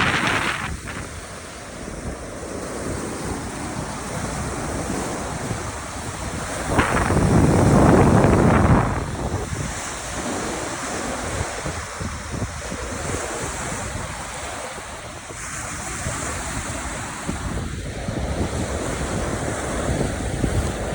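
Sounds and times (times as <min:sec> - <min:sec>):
small waves washing onto beach: 0:00.0 - 0:20.9
wind rumbling on microphone: 0:00.0 - 0:20.9.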